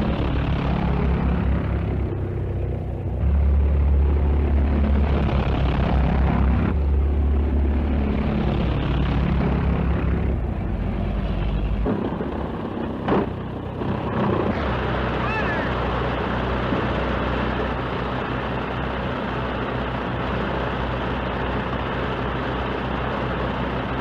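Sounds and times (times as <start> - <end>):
car engines droning: 0.0 - 24.0.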